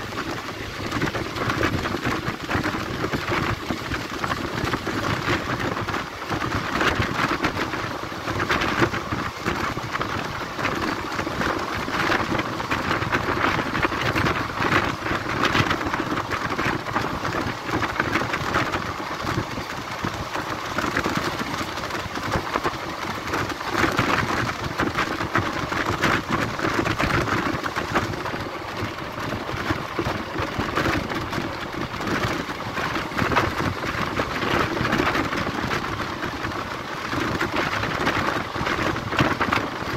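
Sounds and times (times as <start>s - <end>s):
train wheels rumbling on rails: 0.0s - 39.9s
wind buffeting microphone: 0.0s - 39.9s.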